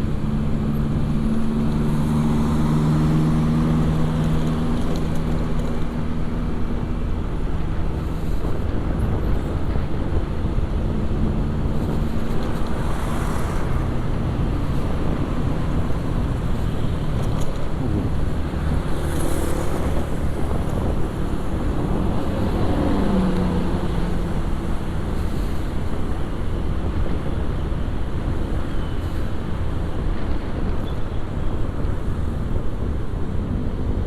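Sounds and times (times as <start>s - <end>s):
road and wind noise: 0.0s - 34.0s.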